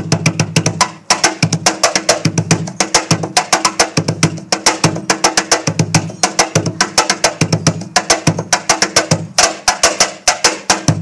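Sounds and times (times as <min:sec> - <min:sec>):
cajon drumming: 0:00.0 - 0:11.0.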